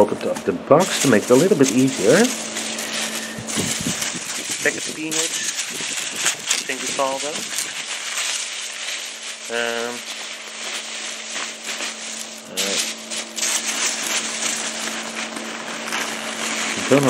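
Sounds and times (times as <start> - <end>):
packing peanuts rustling: 0.0 - 17.0.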